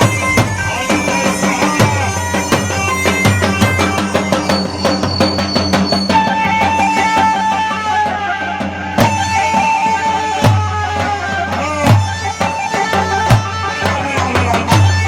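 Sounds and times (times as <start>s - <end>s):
drum strikes: 0.0s - 15.0s
reedy wind instrument melody: 0.0s - 15.0s.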